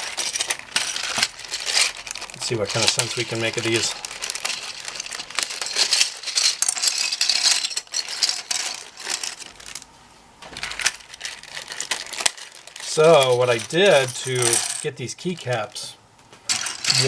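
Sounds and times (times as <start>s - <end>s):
plastic keycaps clattering: 0.0s - 9.8s, 10.6s - 15.7s, 16.5s - 17.0s.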